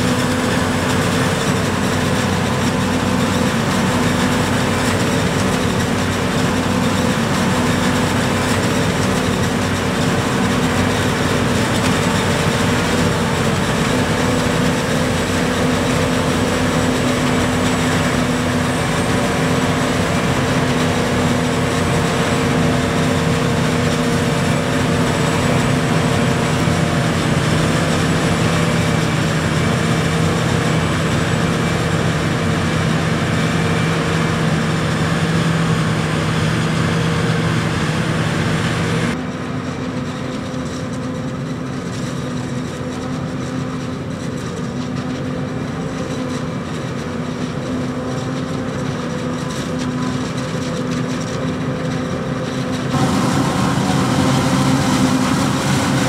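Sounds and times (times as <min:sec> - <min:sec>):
heavy harvester engine drone: 0:00.0 - 0:56.0.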